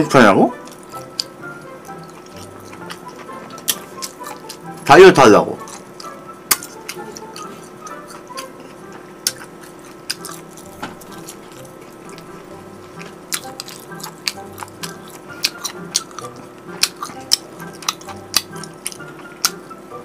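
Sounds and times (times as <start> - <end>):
faint background music: 0.0 - 20.0
wet chewing: 0.5 - 5.0, 5.6 - 19.8.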